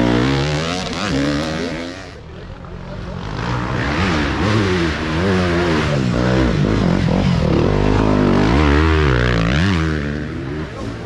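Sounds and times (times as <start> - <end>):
dirt bike engine revving: 0.0 - 2.3, 2.9 - 11.0.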